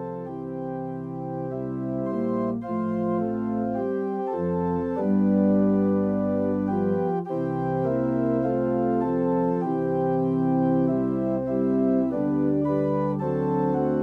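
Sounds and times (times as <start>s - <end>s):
low organ bass line: 0.0s - 14.0s
organ chords: 0.0s - 14.0s.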